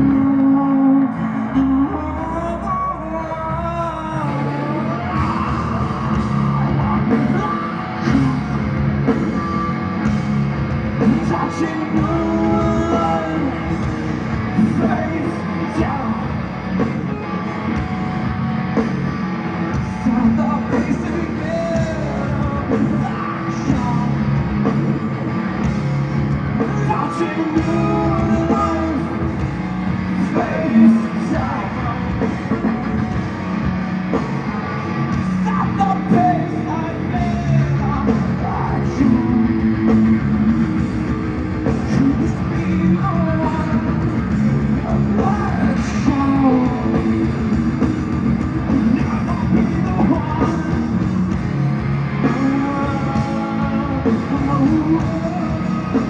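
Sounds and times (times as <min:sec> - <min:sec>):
singer singing: 0:00.0 - 0:10.3, 0:10.9 - 0:18.3, 0:19.7 - 0:25.3, 0:26.5 - 0:56.0
live rock band playing: 0:00.0 - 0:56.0.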